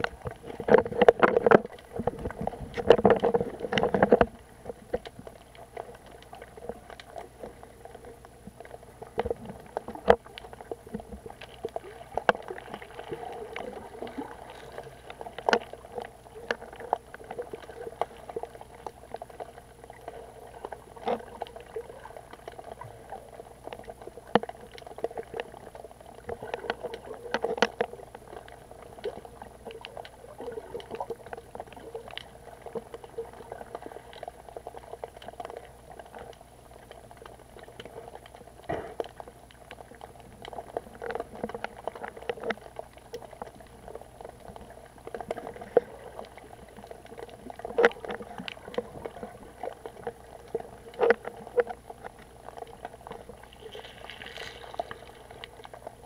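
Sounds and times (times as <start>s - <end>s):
muffled underwater sloshing: 0.0s - 56.0s.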